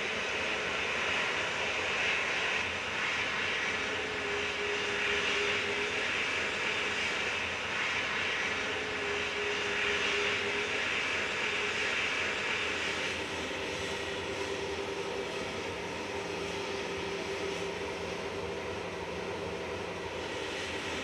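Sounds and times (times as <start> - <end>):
airliner engines rushing: 0.0 - 21.0
faint engine whine: 0.0 - 21.0.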